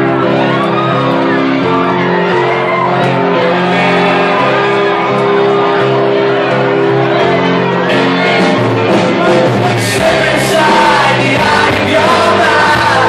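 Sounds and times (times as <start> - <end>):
crowd shouting and singing along: 0.0 - 13.0
loud club music: 0.0 - 13.0.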